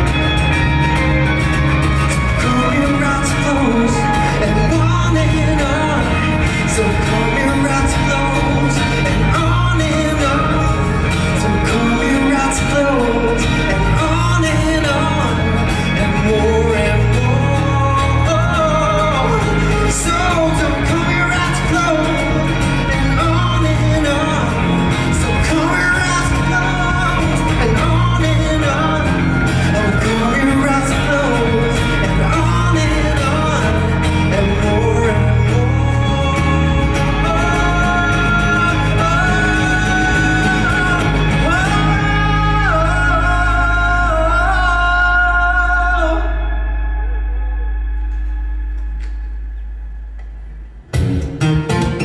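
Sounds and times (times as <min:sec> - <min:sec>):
person singing: 0:00.0 - 0:49.3
pop-rock band playing: 0:00.0 - 0:49.5, 0:50.3 - 0:52.0.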